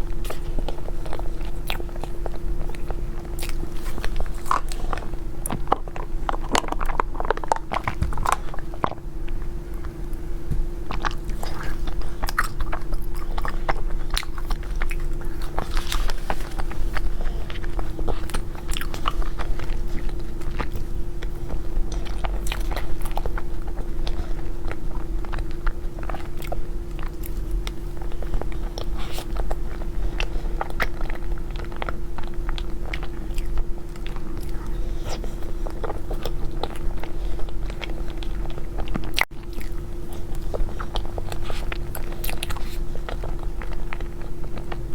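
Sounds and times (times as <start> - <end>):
faint hum: 0.0 - 44.9
wet chewing: 0.0 - 44.9.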